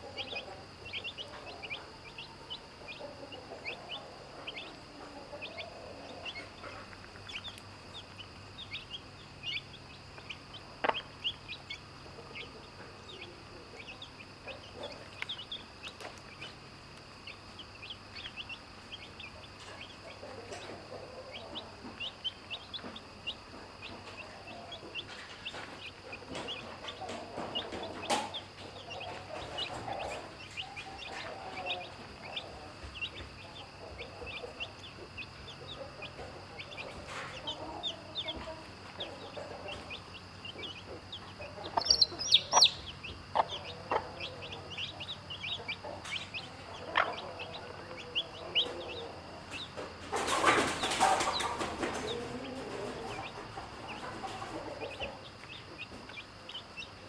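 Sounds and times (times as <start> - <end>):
chicks peeping: 0.0 - 57.0
hen clucking: 0.0 - 57.0.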